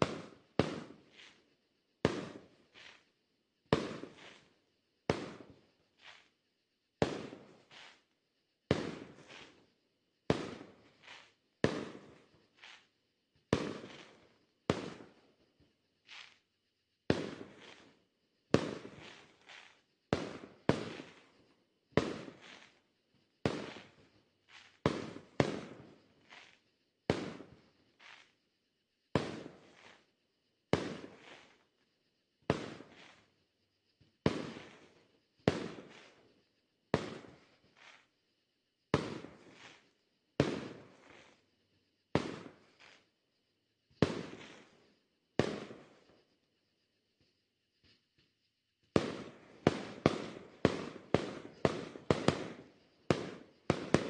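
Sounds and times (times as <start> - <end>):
firework bursts: 0.0 - 28.5, 29.1 - 38.3, 38.9 - 46.5, 47.2 - 54.0.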